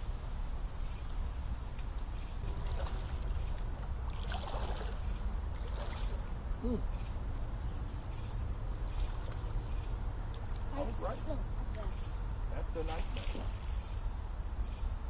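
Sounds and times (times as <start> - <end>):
creek water trickling: 0.2 - 15.0.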